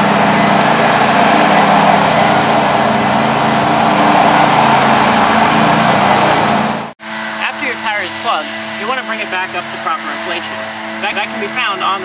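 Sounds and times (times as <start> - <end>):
machine motor humming and hissing: 0.0 - 12.0.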